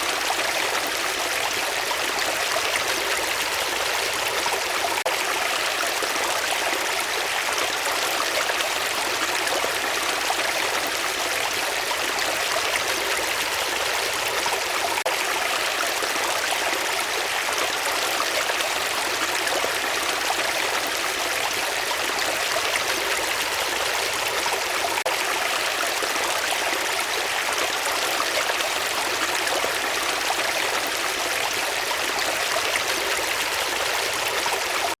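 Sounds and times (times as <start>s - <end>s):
flowing water: 0.0s - 35.0s.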